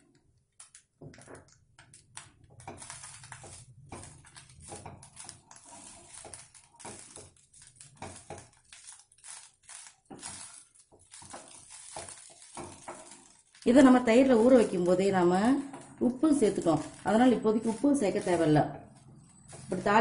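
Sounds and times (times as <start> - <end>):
spatula scraping pan: 2.6 - 20.0.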